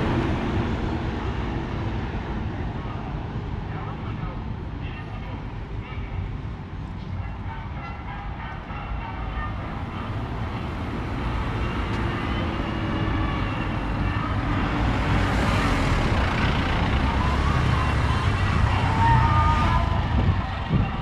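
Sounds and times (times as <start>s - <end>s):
auto-rickshaw engines: 0.0s - 21.0s
truck engines: 0.0s - 21.0s.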